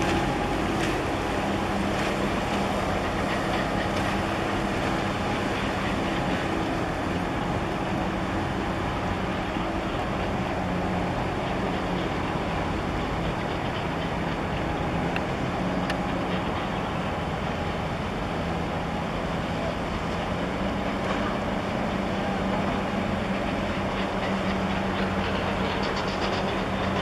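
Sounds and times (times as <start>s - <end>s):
ship diesel engines droning: 0.0s - 27.0s
wind and water noise: 0.0s - 27.0s.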